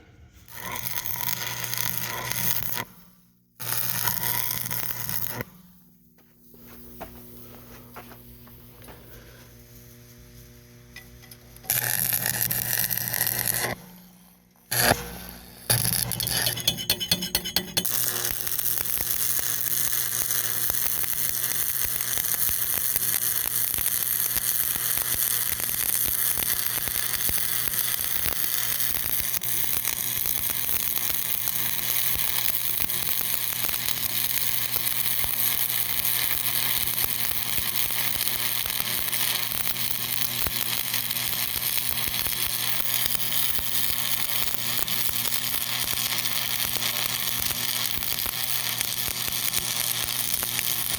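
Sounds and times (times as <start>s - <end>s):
electric arc welding crackle: 0.4s - 5.8s, 8.3s - 50.9s.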